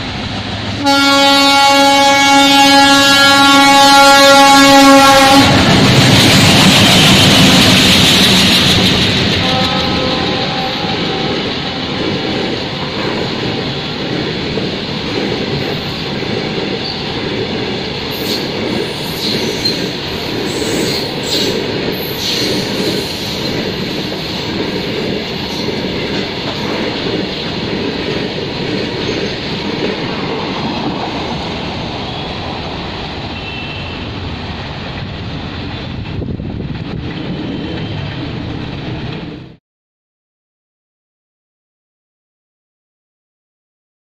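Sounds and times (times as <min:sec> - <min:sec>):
freight train wheels rumbling: 0:00.0 - 0:39.6.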